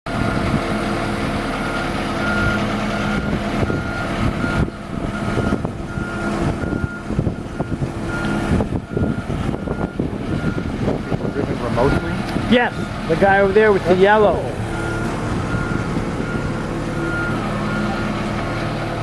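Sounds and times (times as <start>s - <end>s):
lift engine running: 0.1s - 19.0s
warning beeper: 2.2s - 18.2s.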